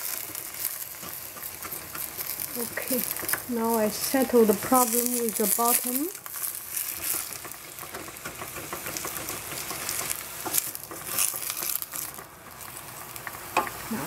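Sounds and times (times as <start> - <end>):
vegetables sizzling in a pan: 0.0 - 14.0
spatula knocking and scraping pan: 0.1 - 13.8.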